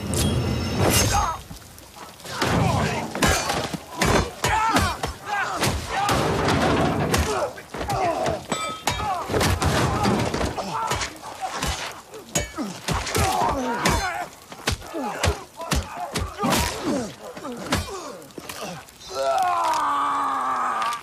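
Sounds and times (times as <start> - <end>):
men grunting and crying out: 2.1 - 21.0.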